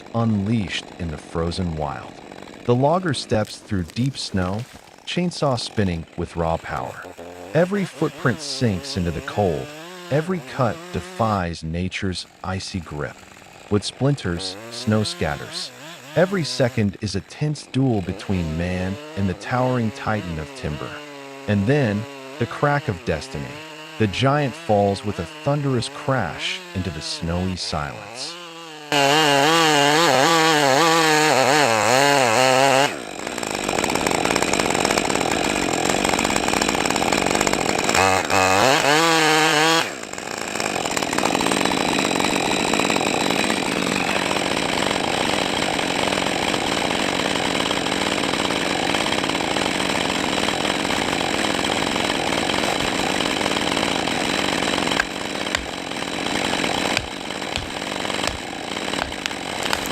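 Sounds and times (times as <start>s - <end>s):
chainsaw cutting wood: 0.0s - 59.9s
chainsaw revving: 0.0s - 59.9s.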